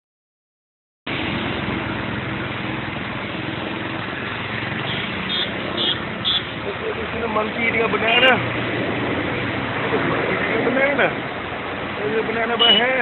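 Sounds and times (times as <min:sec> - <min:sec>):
engine and traffic noise: 0:01.1 - 0:13.0.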